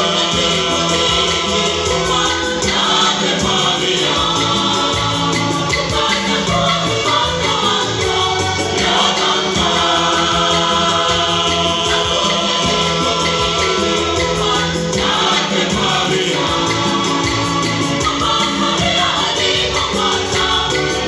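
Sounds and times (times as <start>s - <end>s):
bass and percussion accompaniment: 0.0s - 21.0s
church choir singing: 0.0s - 21.0s.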